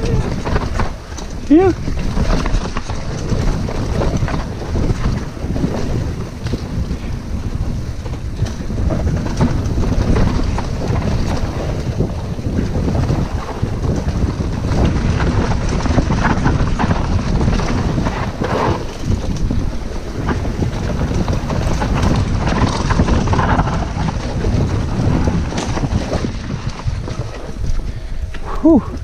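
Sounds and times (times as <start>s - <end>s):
bike rattling and clicking: 0.0s - 29.0s
tyres rolling over dirt: 0.0s - 29.0s
wind buffeting microphone: 0.0s - 29.0s.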